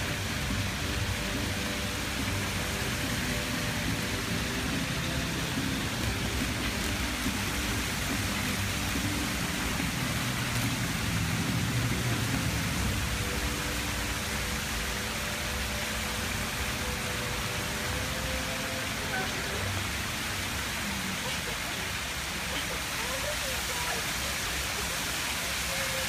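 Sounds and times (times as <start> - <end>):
rain on stone: 0.0 - 26.0
faint crowd voices: 1.2 - 26.0.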